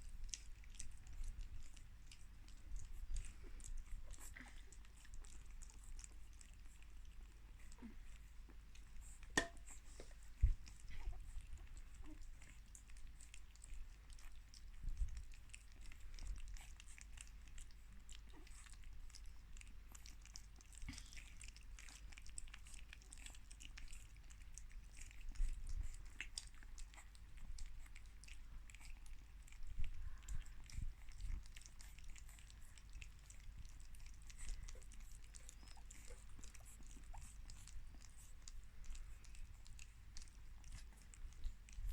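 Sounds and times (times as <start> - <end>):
puppies eating wet smacks: 0.0 - 41.9.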